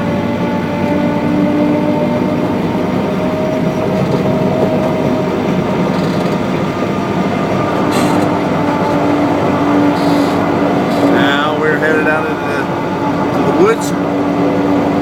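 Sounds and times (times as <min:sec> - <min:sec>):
small diesel locomotive running: 0:00.0 - 0:15.0
train rumbling along track: 0:00.0 - 0:15.0.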